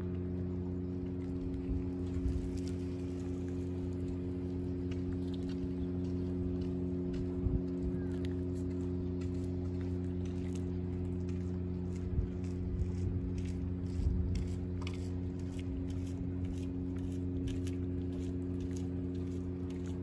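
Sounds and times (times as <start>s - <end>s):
cat chewing raw fish: 0.0s - 20.0s
steady low hum: 0.0s - 20.0s.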